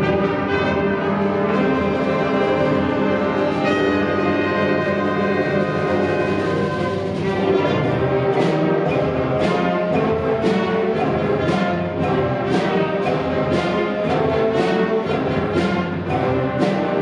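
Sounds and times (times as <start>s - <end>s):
concert band brass chords: 0.0s - 17.0s
percussion strikes: 0.0s - 17.0s.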